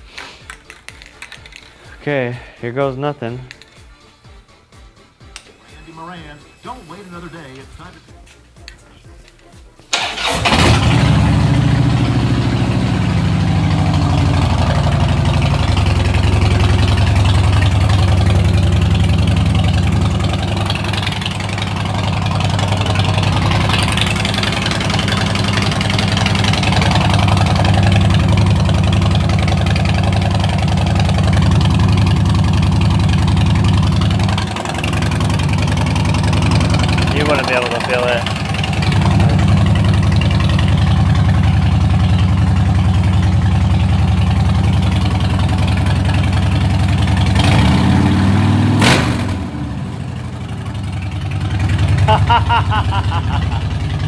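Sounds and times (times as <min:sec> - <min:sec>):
motorcycle engine running: 0:09.9 - 0:54.0.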